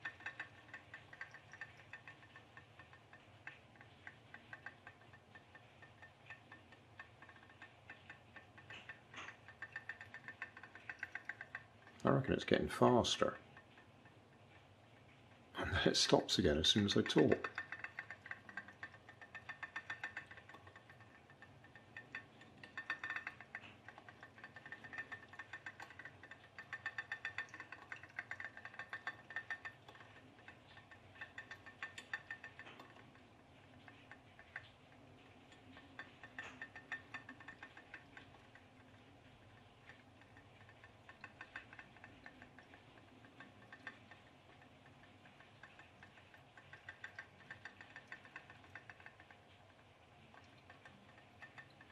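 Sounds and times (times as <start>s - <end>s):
pop-pop boat rapid ticking: 0.0s - 14.4s, 15.5s - 51.9s.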